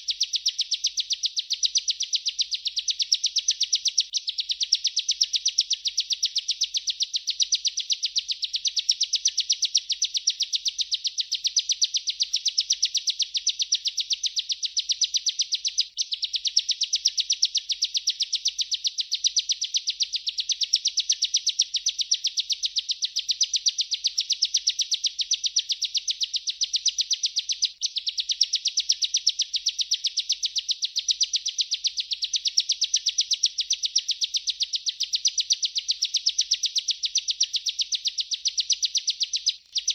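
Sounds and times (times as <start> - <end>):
bird singing a fast trill: 0.0 - 39.9.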